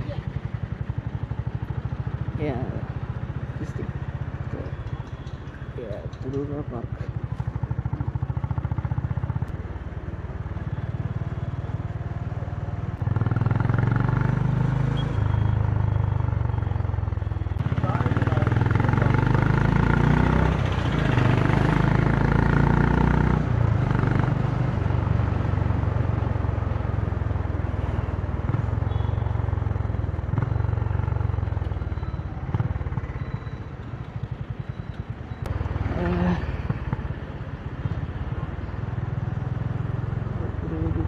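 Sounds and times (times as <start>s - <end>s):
motorcycle engine and exhaust: 0.0s - 41.0s.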